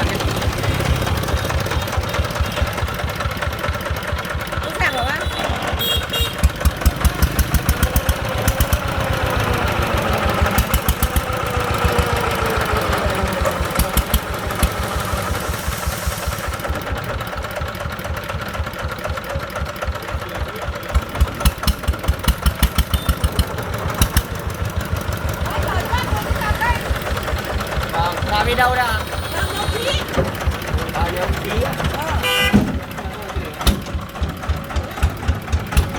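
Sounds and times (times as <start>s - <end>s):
diesel engine knocking: 0.0s - 35.9s.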